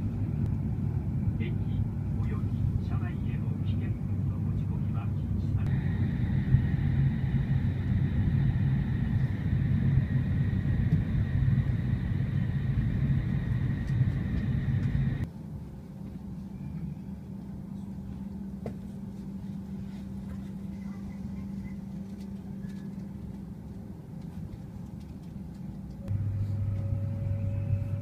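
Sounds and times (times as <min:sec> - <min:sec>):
station platform hum: 0:00.0 - 0:28.0
train rumbling with high whine: 0:00.0 - 0:28.0.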